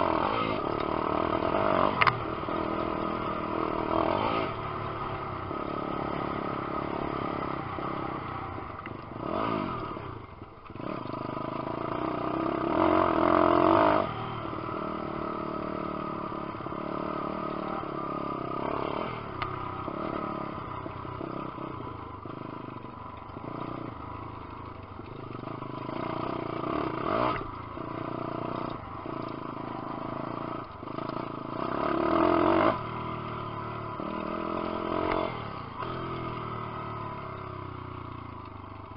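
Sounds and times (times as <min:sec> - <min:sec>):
dirt bike engine revving: 0:00.0 - 0:10.1, 0:10.7 - 0:37.5.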